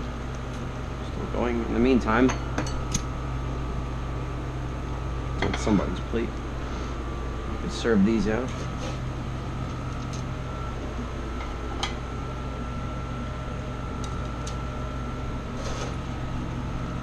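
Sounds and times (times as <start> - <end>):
mechanical hum with high whine: 0.0 - 17.0.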